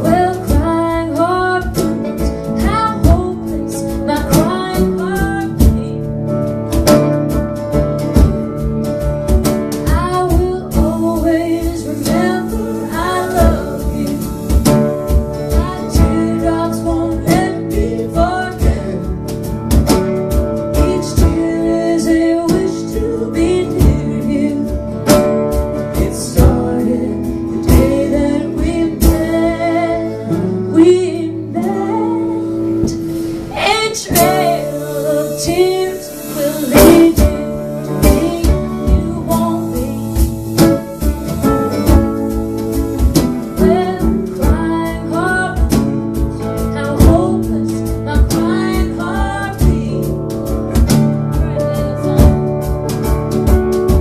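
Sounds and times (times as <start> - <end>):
woman singing: 0.0 - 6.9, 9.7 - 53.0.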